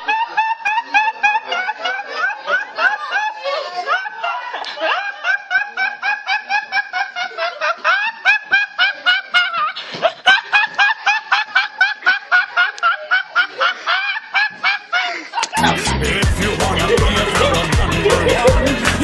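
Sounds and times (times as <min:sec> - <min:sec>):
boy laughing hard: 0:00.0 - 0:19.0.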